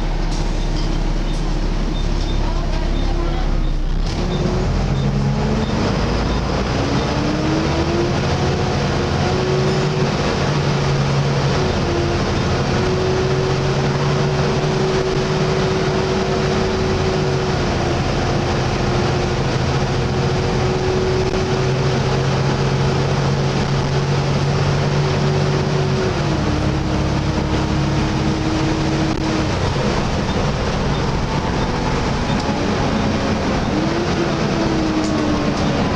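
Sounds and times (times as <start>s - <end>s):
bus diesel engine droning: 0.0s - 35.9s
bus high whine: 0.0s - 35.9s.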